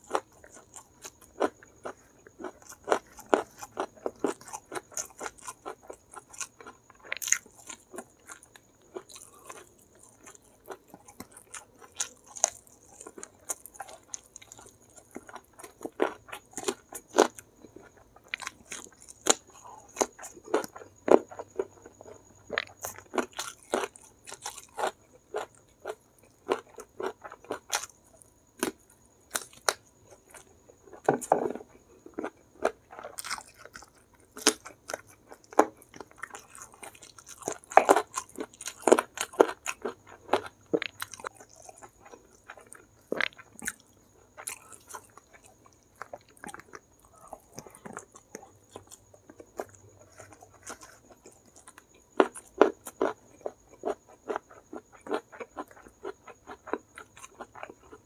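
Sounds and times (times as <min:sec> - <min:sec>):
chewing and crunching fried chicken: 0:00.0 - 0:58.0.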